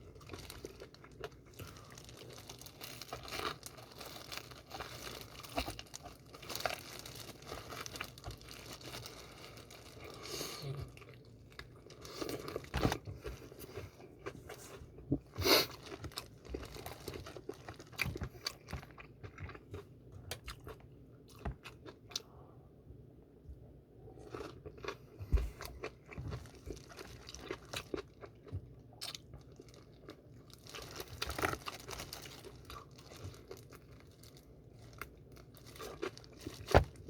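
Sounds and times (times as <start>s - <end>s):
crunching fried chicken: 0.0s - 22.2s, 24.2s - 37.0s.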